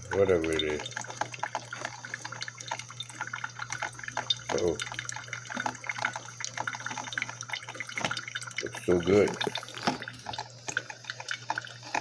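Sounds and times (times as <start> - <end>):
coffee dripping into carafe: 0.0 - 12.0.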